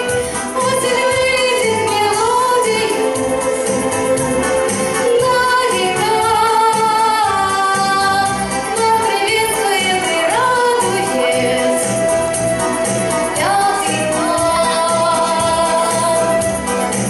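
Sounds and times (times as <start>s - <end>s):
backing track with steady beat: 0.0s - 17.0s.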